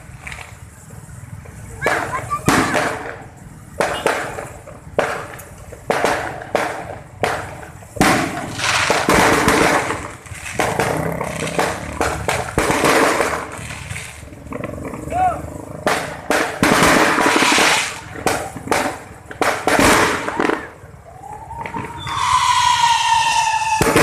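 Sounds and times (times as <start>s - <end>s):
fireworks bangs: 0.0s - 24.0s
fireworks crackling hiss: 0.0s - 24.0s.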